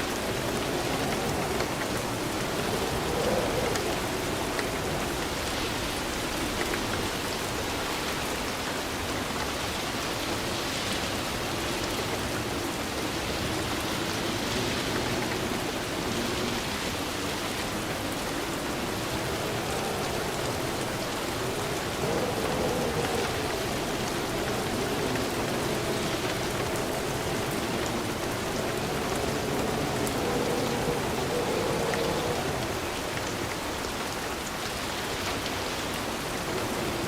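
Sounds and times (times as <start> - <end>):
rain pattering on a surface: 0.0 - 37.0.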